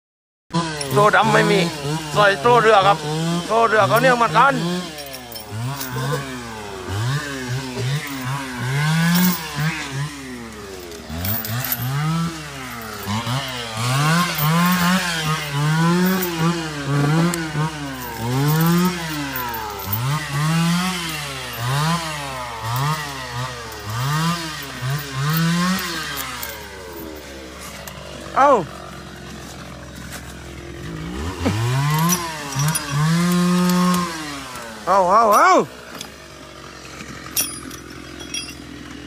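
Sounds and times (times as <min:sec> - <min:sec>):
small engine revving: 0:00.5 - 0:39.0.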